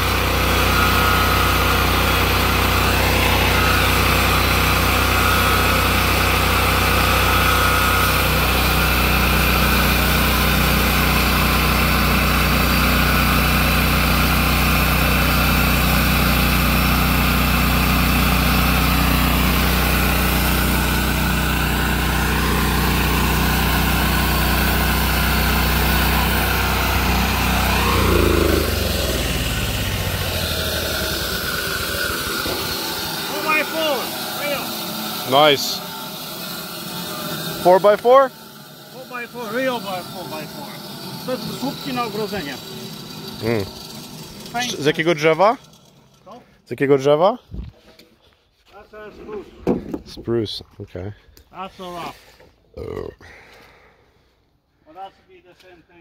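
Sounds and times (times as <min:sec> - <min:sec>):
small gasoline engine running: 0:00.0 - 0:47.5.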